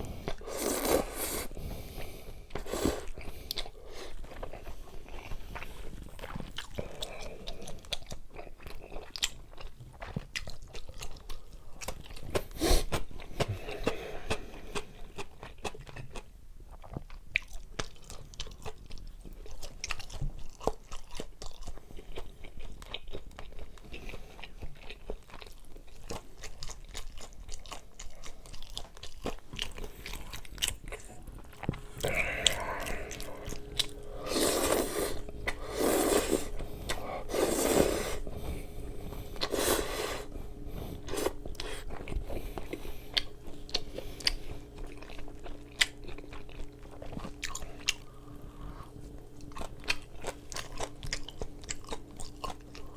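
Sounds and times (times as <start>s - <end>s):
chewing crunchy food: 0.0s - 52.9s.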